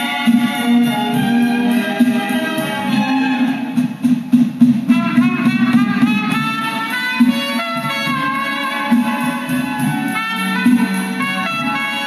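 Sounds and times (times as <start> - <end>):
record music over speakers: 0.0 - 12.0.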